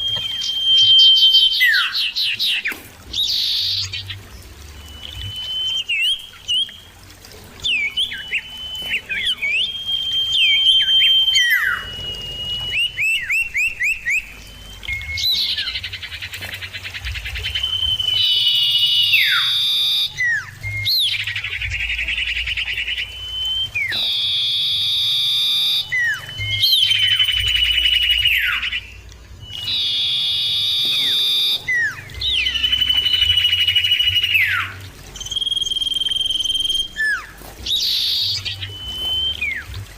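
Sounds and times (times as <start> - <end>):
bird whistling: 0.0 - 7.0, 7.6 - 39.9
bird buzzy chattering trills: 7.6 - 39.8.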